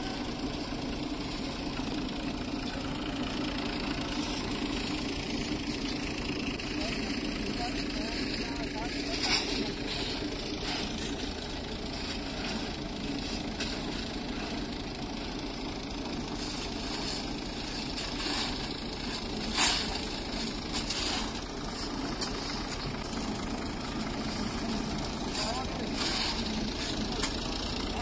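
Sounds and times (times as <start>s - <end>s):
heavy machinery engine idling: 0.0s - 28.0s.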